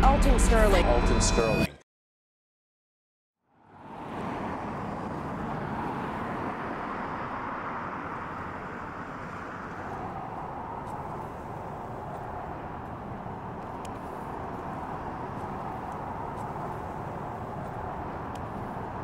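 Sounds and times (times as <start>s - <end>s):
road traffic hum: 3.4s - 19.0s.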